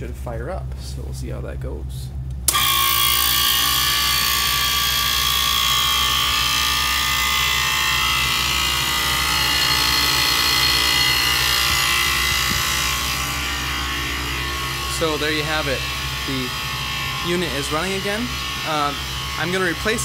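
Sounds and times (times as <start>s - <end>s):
compressor humming: 0.0s - 20.0s
condenser fan blowing: 0.0s - 20.0s
constant tones: 0.0s - 20.0s.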